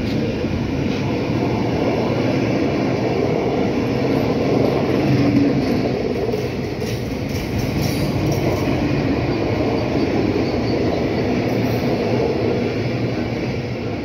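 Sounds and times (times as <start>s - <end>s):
wheels rumbling on rails: 0.0s - 14.0s.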